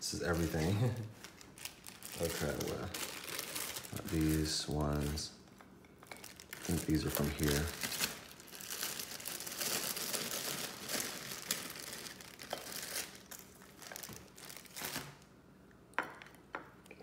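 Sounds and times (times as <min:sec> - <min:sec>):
plastic bag crinkling: 0:00.0 - 0:05.4, 0:06.0 - 0:15.3.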